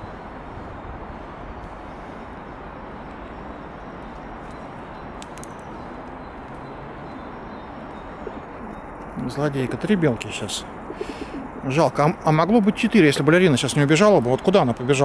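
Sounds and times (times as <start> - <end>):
urban background hum: 0.0 - 15.0.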